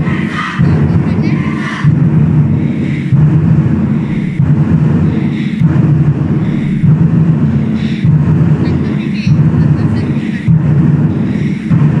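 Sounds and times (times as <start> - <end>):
large barrel drums beaten with sticks: 0.0 - 12.0.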